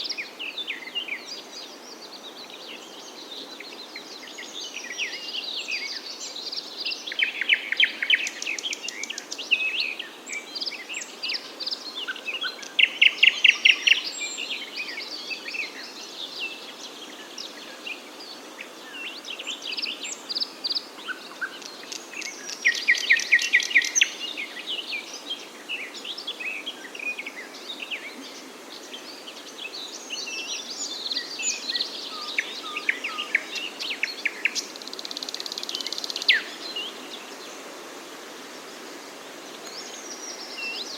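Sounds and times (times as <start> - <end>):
low background noise: 0.0 - 40.9.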